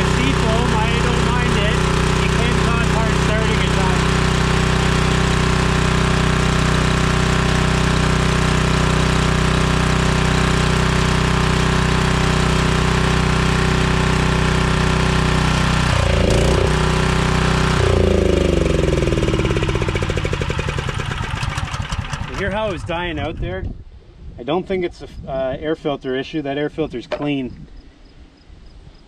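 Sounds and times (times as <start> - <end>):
generator engine running and dying: 0.0 - 23.7.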